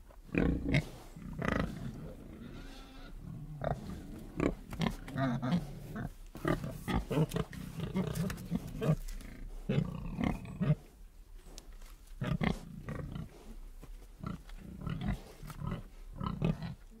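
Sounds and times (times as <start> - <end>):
pigs grunting: 0.3 - 10.9, 12.2 - 13.6, 14.2 - 17.0.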